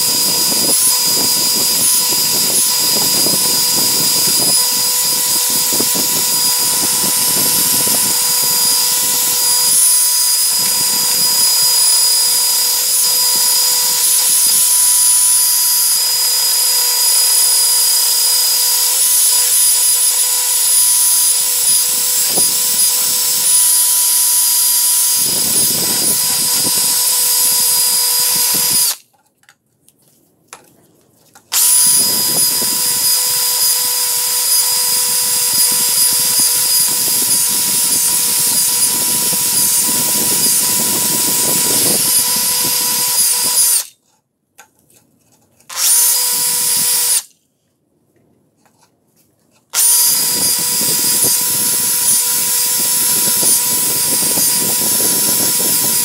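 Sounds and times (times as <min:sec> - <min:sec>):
cordless drill motor whine: 0:00.0 - 0:29.0, 0:31.5 - 0:43.9, 0:45.7 - 0:47.3, 0:49.7 - 0:56.0.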